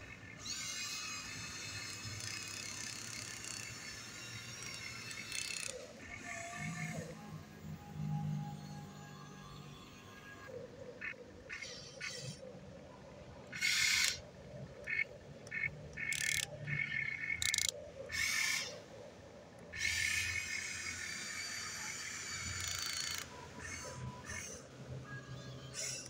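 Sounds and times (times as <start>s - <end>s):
electric gear motors whining: 0.0s - 26.0s.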